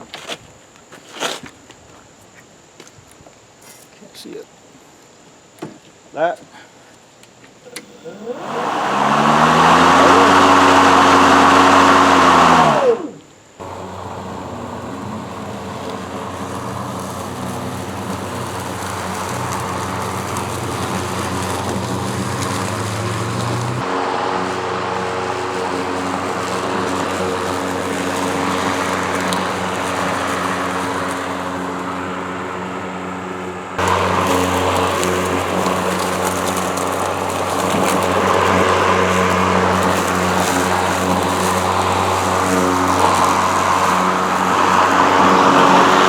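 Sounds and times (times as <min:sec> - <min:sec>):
electric lawn mower humming: 0:07.7 - 0:46.0.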